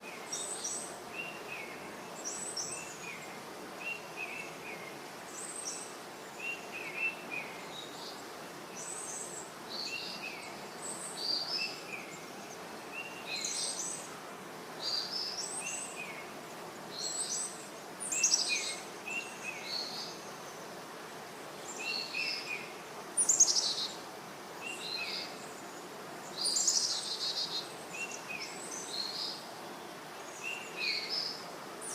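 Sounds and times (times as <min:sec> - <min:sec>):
steady background hiss: 0:00.0 - 0:31.9.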